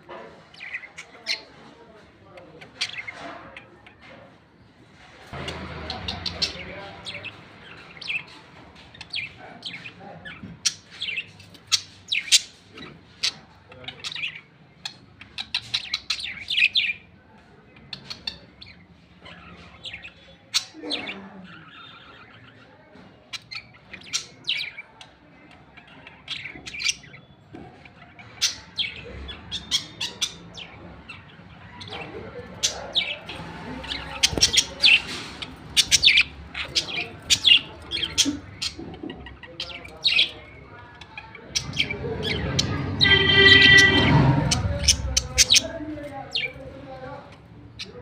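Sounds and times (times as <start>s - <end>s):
lovebirds chirping and squawking: 0.0s - 48.0s.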